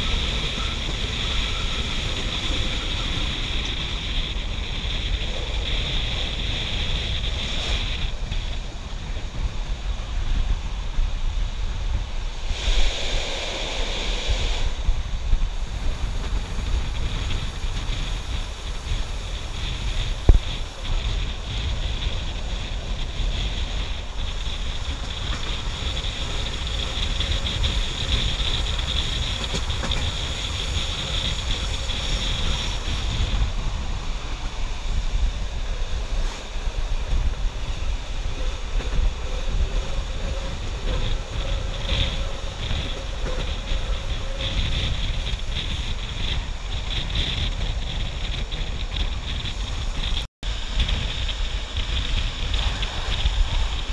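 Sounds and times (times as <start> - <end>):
train rumbling on track: 0.0 - 53.9
wind rushing over microphone: 0.0 - 53.9.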